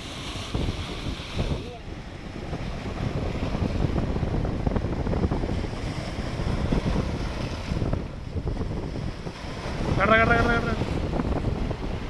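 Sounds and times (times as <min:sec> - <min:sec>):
waves breaking against rocks: 0:00.0 - 0:12.0
wind buffeting microphone: 0:00.0 - 0:12.0.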